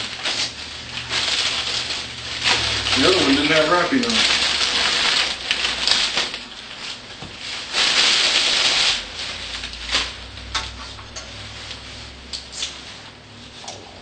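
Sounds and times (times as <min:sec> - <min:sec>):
tissue paper rustling: 0:00.0 - 0:13.7.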